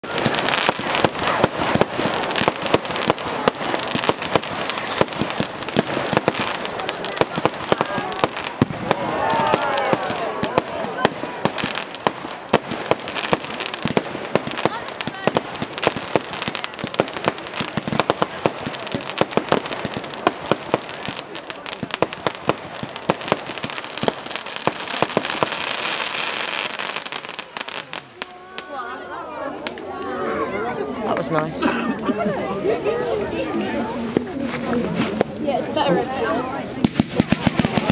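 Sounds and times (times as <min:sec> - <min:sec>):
fireworks crackling and banging: 0:00.0 - 0:30.2, 0:32.8 - 0:37.9.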